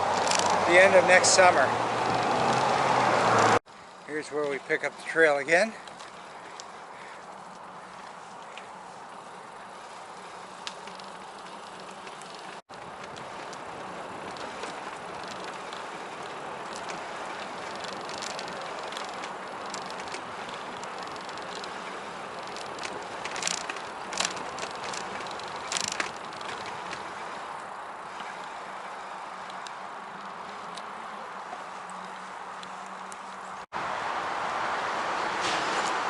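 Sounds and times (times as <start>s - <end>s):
bicycle clicks and rattles: 0.0s - 33.7s
bicycle tyre and wind noise: 0.0s - 36.0s.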